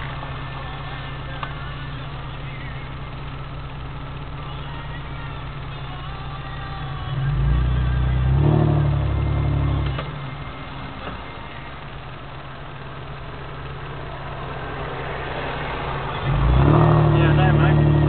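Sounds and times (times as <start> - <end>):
vehicle engine revving and idling: 0.0 - 18.0.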